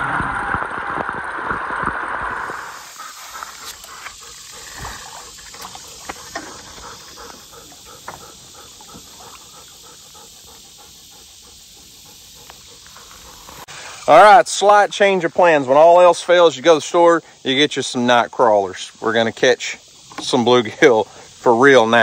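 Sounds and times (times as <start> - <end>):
steady hiss: 0.5 - 22.0.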